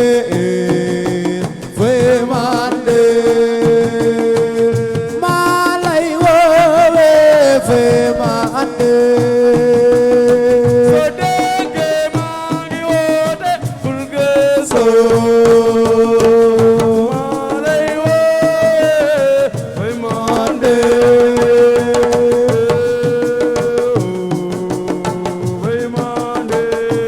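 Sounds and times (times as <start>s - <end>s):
hand drums busy rhythm: 0.0s - 27.0s.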